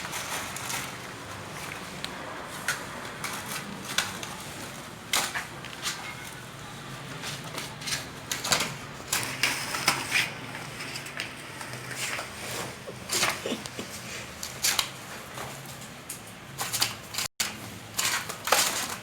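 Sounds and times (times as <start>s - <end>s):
kitten scratching with claws: 0.0s - 19.0s.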